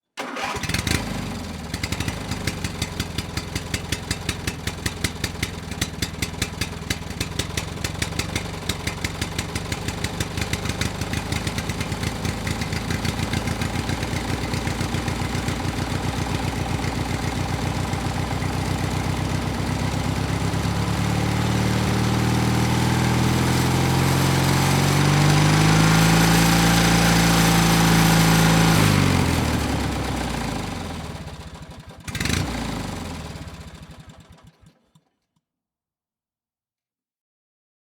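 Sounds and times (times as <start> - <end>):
motorcycle engine idling and revving: 0.4 - 35.0.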